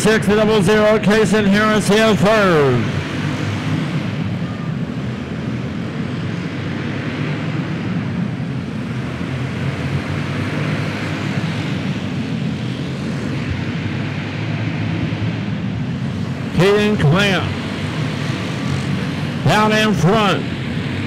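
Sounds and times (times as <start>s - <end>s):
kart engines buzzing: 0.0s - 21.0s.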